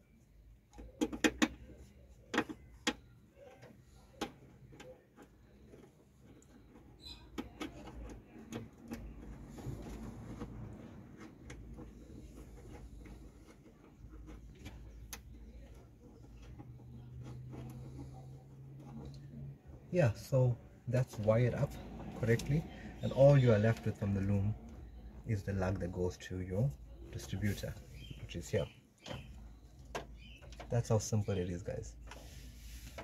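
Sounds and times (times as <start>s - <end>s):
rustling and handling noise: 0.0s - 33.0s.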